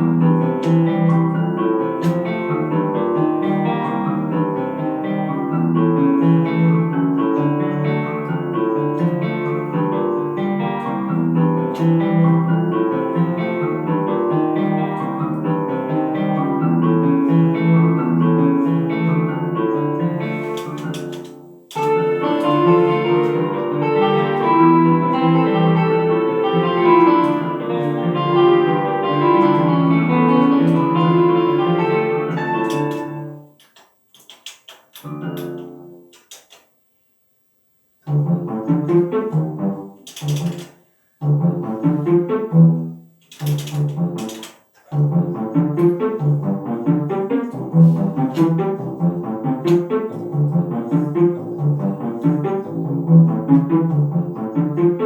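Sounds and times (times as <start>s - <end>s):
plucked guitar and piano music: 0.0s - 36.6s, 38.0s - 55.0s.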